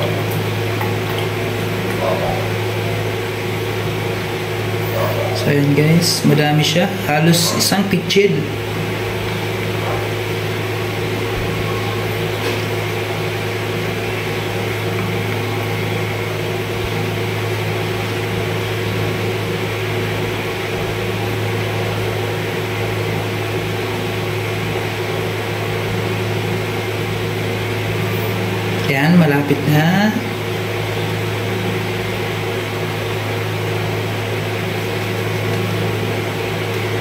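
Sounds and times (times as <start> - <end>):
appliance motor hum: 0.0 - 37.0.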